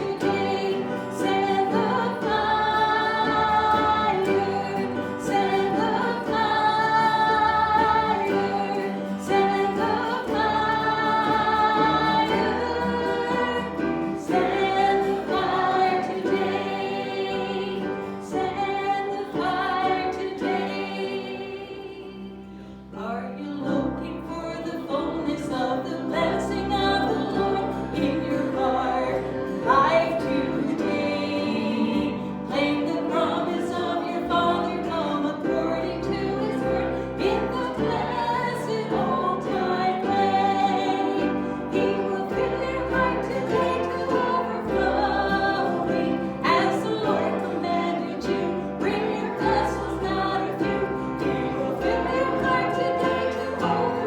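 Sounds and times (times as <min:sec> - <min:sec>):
instrumental accompaniment: 0:00.0 - 0:22.8, 0:25.6 - 0:54.0
congregation singing a hymn: 0:00.0 - 0:54.0.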